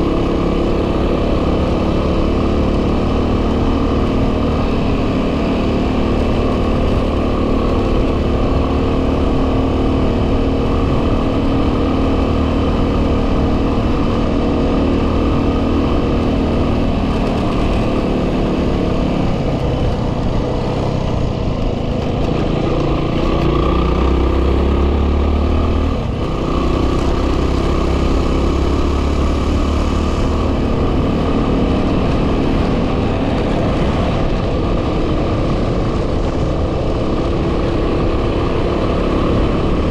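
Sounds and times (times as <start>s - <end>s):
motorcycle engine running: 0.0s - 39.9s
wind noise on microphone: 2.9s - 39.9s.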